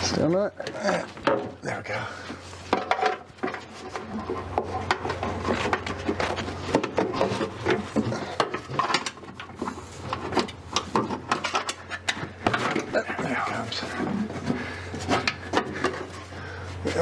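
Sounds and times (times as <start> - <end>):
metal parts clunking and scraping: 0.0 - 17.0.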